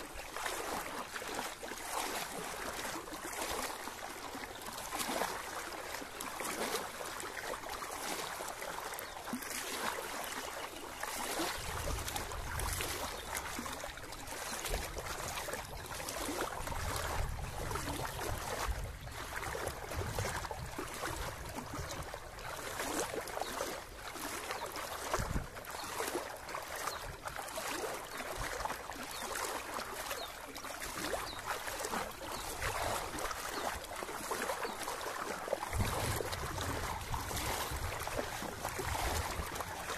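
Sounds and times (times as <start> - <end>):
floodwater splashing and sloshing: 0.0 - 39.9.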